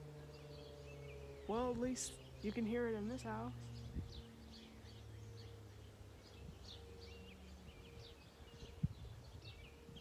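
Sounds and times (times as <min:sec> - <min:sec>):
distant warning siren tone: 0:00.0 - 0:10.0
small birds chirping: 0:00.0 - 0:10.0.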